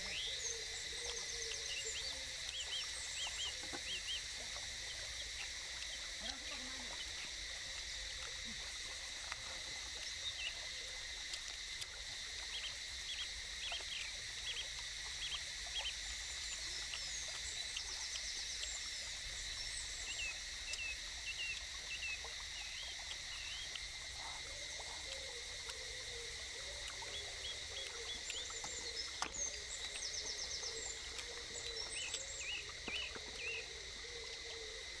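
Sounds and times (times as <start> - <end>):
insect drone: 0.0 - 35.0.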